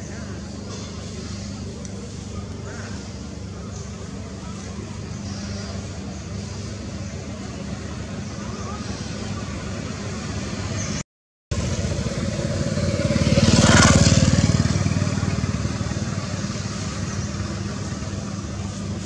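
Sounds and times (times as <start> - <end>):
vehicle engine driving past: 0.0 - 19.0.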